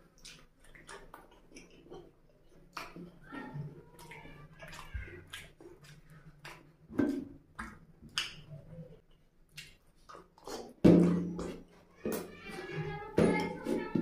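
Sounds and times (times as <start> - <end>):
lip smacks: 0.0 - 11.8
fingers squishing food: 0.0 - 14.0.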